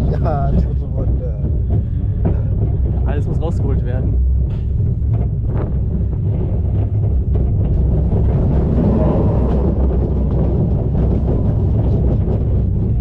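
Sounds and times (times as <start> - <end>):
roller coaster wheels rumbling: 0.0 - 13.0
wind buffeting microphone: 0.0 - 13.0.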